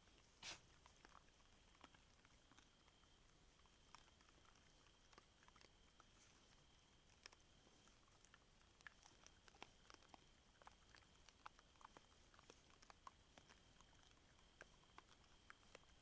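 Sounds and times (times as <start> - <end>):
boar chewing corn: 0.0 - 16.0.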